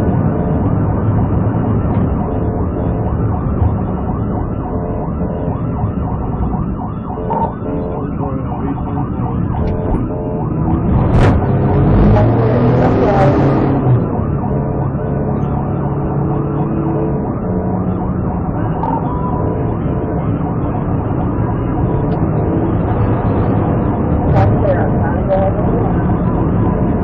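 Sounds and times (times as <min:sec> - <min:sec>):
car engine and road noise: 0:00.0 - 0:27.0
police siren wailing: 0:00.0 - 0:27.0
rush of noise: 0:00.0 - 0:27.0.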